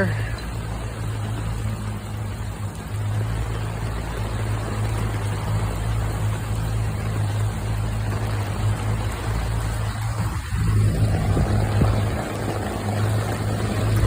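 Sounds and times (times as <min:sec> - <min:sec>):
boat motor running: 0:00.0 - 0:14.0
rain: 0:00.0 - 0:14.0
wind: 0:00.0 - 0:14.0.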